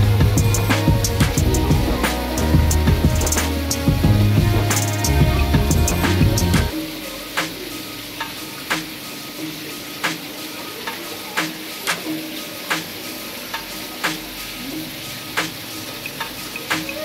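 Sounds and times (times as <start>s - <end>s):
faint soft background music: 0.0s - 17.0s
steady sizzling hiss: 0.0s - 17.0s.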